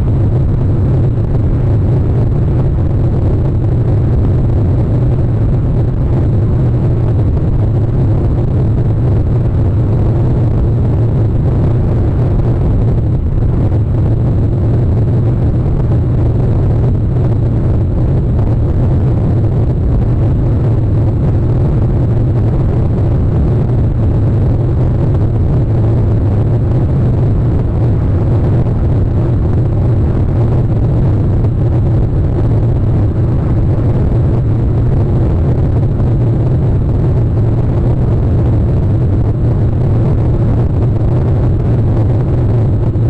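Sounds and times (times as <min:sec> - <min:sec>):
loud low rumble: 0:00.0 - 0:43.0.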